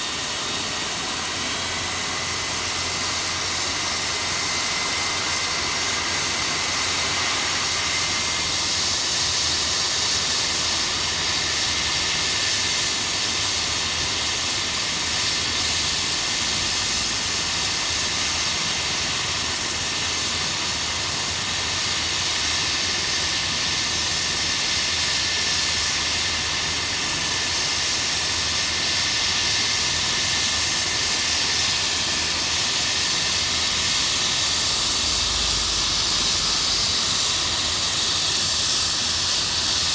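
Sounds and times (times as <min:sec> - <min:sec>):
helicopter turbine whine: 0:00.0 - 0:39.9
loud hiss: 0:00.0 - 0:39.9.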